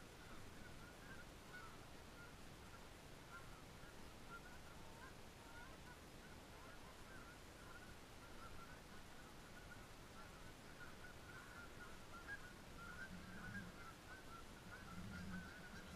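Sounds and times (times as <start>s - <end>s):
geese honking: 0.0s - 15.9s.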